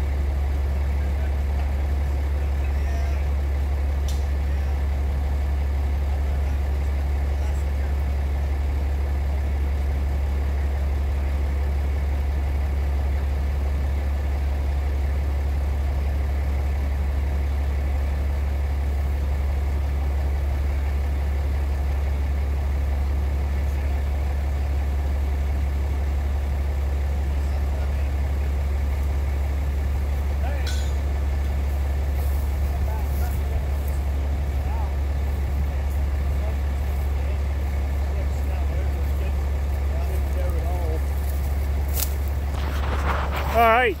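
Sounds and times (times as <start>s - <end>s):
heavy diesel engine idling: 0.0s - 44.0s.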